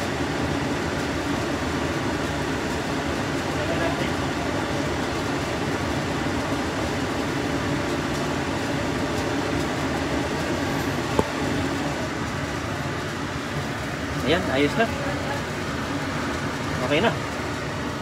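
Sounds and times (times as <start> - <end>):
fan hum: 0.0 - 18.0.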